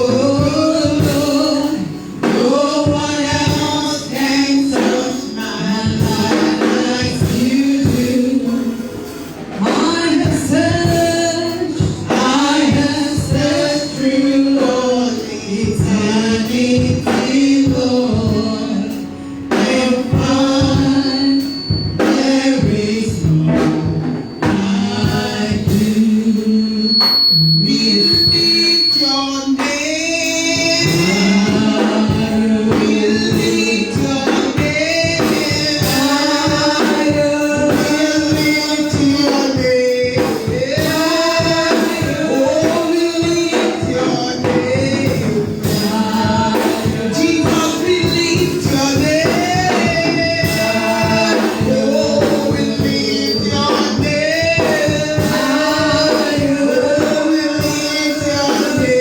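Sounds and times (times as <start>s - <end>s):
band playing steady beat: 0.0s - 59.0s
voices singing: 0.0s - 59.0s.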